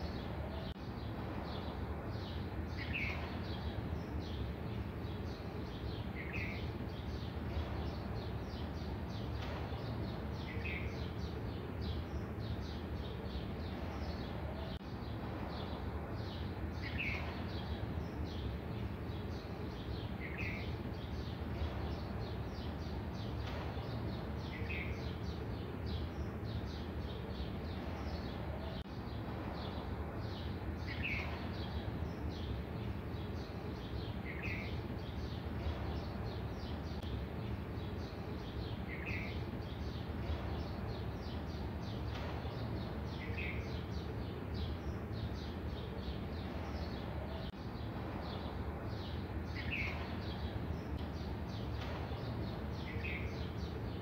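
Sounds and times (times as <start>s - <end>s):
bird chirping: 0.0s - 54.0s.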